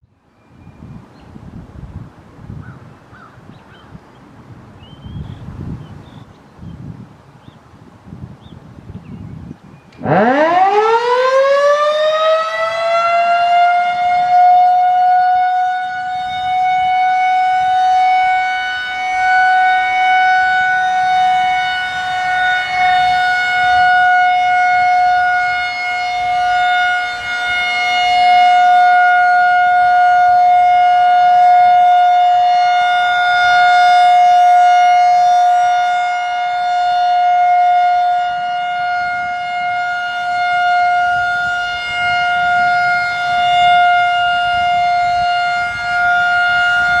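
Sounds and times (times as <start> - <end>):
loud steady siren tone: 9.3 - 47.0.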